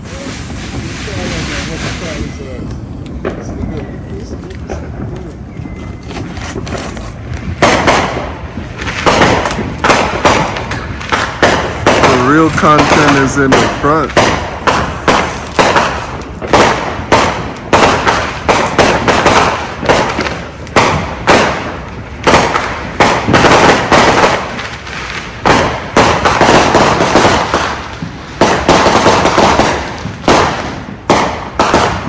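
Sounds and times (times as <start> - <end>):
fireworks banging: 0.0 - 32.0
fireworks crackling: 0.0 - 32.0.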